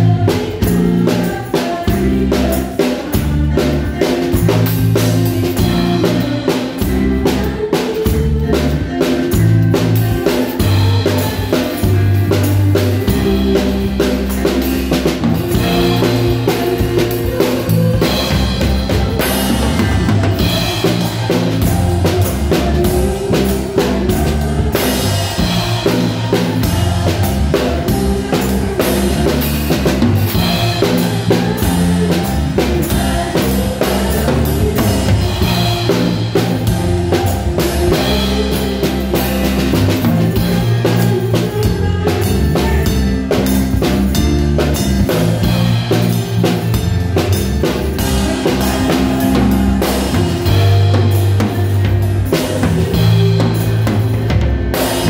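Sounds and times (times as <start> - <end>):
bass guitar line: 0.0 - 55.0
drum kit beat: 0.0 - 55.0
live band playing: 0.0 - 55.0.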